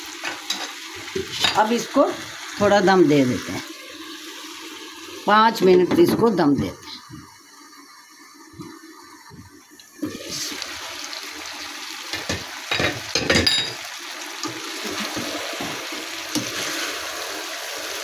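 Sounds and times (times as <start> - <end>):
potato slices sizzling in oil: 0.0 - 18.0.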